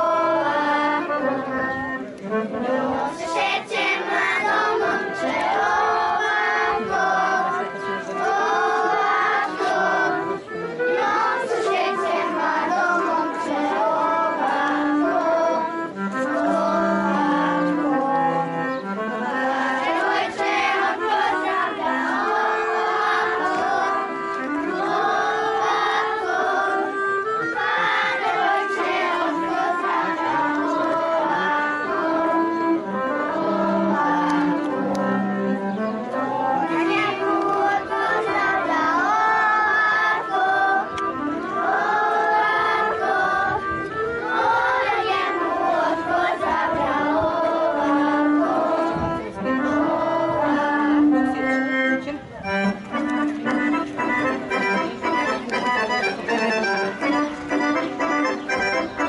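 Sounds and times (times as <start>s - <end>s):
folk dance music: 0.0s - 59.0s
voices singing along: 0.0s - 59.0s.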